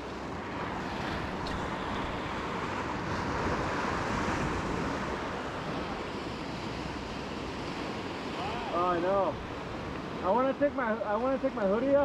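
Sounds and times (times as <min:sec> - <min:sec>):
surf washing against rocks: 0:00.0 - 0:12.0.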